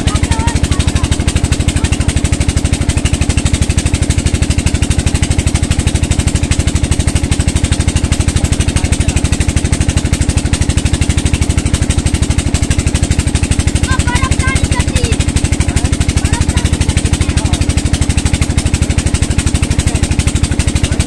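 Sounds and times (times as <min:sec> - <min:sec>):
pump engine running: 0:00.0 - 0:21.0.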